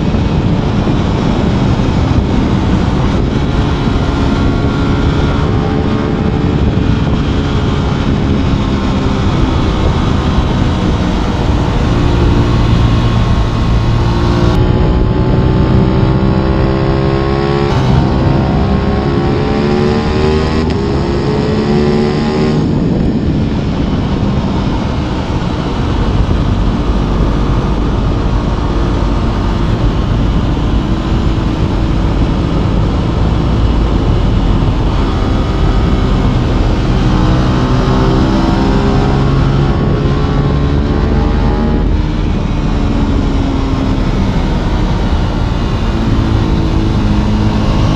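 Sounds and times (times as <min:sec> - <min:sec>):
motorcycle engine revving: 0:00.0 - 0:47.9
wind rush on microphone: 0:00.0 - 0:47.9.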